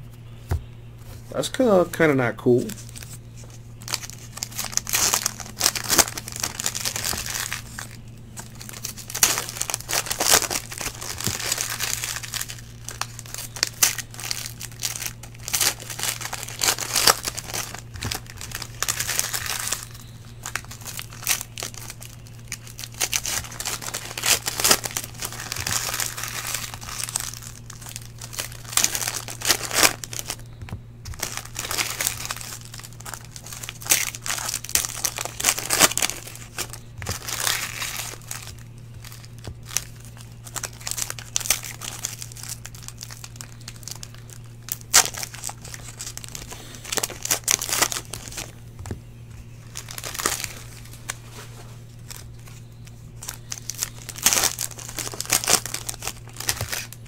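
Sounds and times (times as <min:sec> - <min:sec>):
steady low hum: 0:00.0 - 0:57.0
foil wrappers crinkling: 0:01.0 - 0:57.0
cards being sorted: 0:01.1 - 0:57.0.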